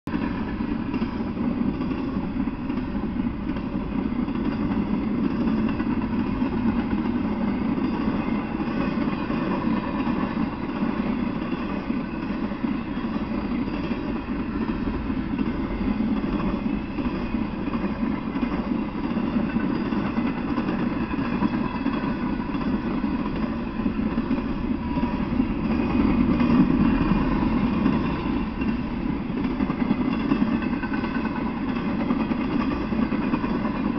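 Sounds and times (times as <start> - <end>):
freight train rumbling past: 0.1 - 33.9.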